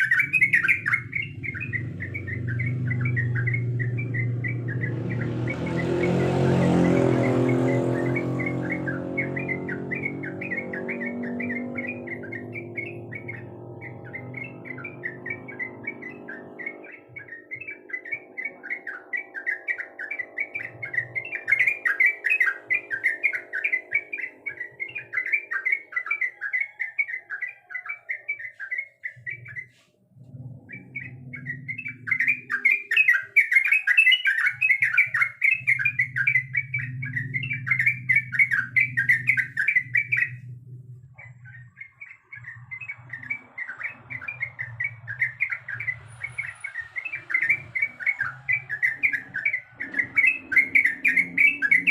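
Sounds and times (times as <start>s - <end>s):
bird chattering song: 0.0s - 51.9s.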